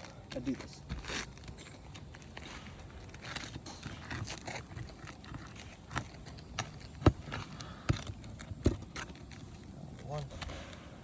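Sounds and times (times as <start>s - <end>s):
tool scraping under shingle: 0.0s - 10.8s.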